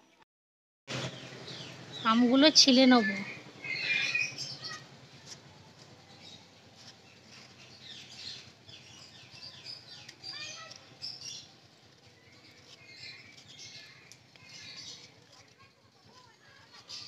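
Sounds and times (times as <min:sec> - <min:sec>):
small birds chirping: 0:00.9 - 0:17.0.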